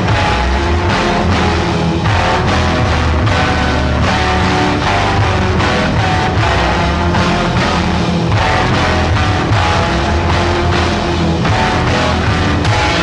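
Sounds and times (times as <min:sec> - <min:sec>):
slowed guitar band music: 0:00.0 - 0:13.0.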